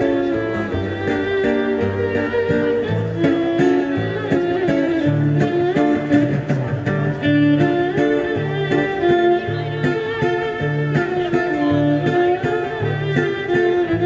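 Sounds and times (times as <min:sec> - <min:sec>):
plucked string instrument: 0:00.0 - 0:14.0
violin: 0:00.0 - 0:14.0.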